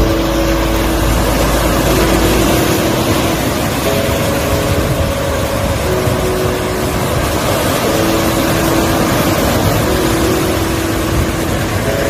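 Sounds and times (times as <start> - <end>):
long held music notes: 0.0 - 12.0
wind noise on microphone: 0.0 - 12.0.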